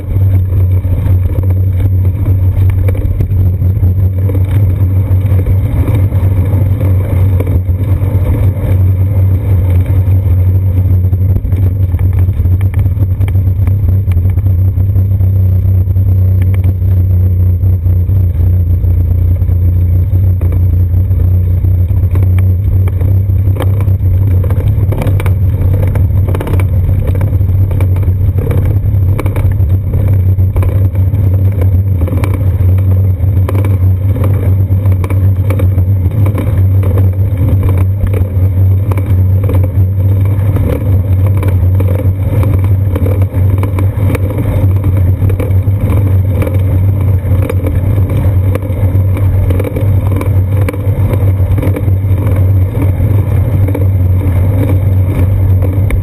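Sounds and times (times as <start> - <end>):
road vibration rumble: 0.0 - 56.0.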